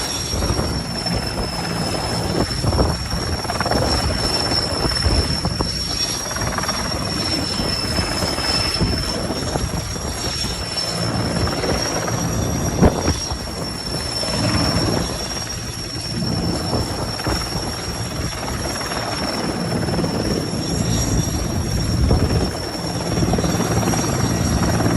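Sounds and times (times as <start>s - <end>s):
helicopter rotor and engine: 0.0s - 24.9s
high-pitched whine: 0.0s - 24.9s.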